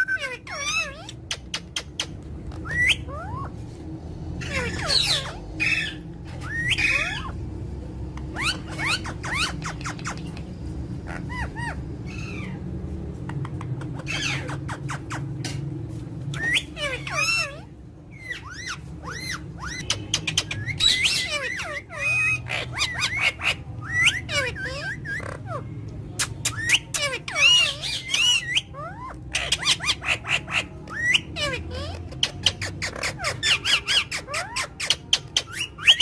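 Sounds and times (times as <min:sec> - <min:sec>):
bird chirping and singing: 0:00.0 - 0:36.0.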